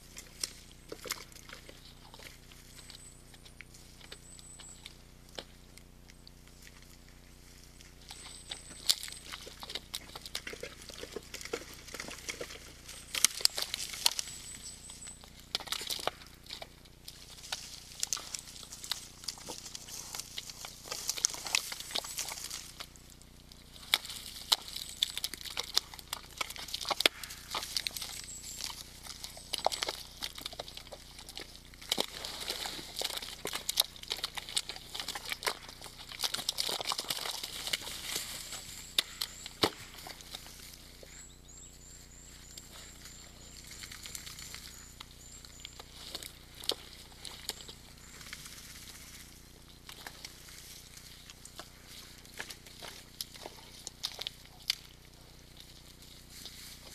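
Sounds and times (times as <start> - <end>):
squelching steps in wet mud: 0.0 - 56.9
rustling: 6.4 - 56.9.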